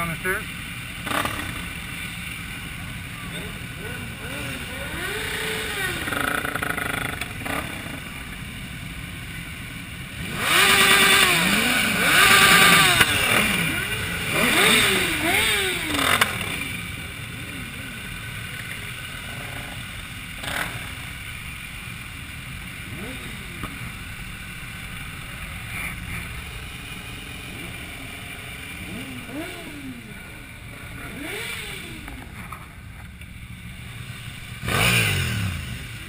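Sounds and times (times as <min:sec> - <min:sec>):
sport motorcycle engines revving: 0:00.0 - 0:36.0.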